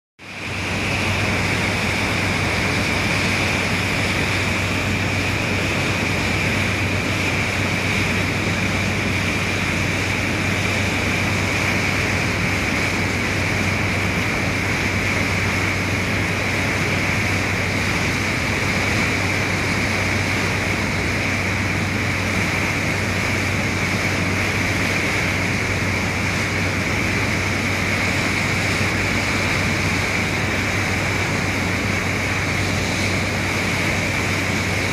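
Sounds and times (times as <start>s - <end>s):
churning water rush: 0.2s - 34.9s
high whine: 0.2s - 34.9s
low engine hum: 0.2s - 34.9s.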